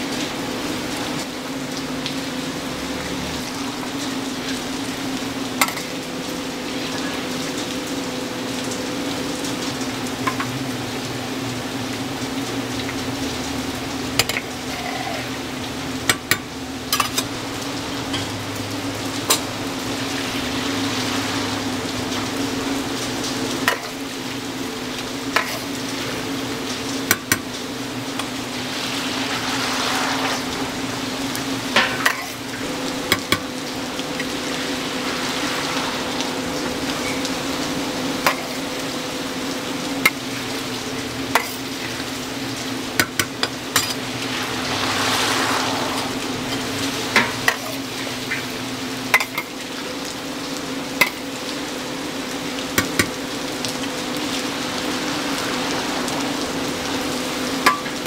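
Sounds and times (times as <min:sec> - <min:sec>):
hot oil sizzling: 0:00.0 - 0:58.0.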